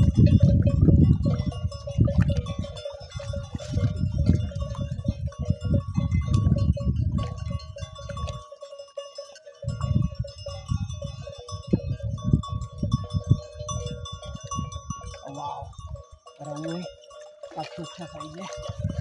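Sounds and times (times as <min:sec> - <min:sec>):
wind buffeting microphone: 0:00.0 - 0:08.5, 0:09.6 - 0:17.0, 0:17.8 - 0:19.0
faint bell-like notes: 0:00.1 - 0:19.0.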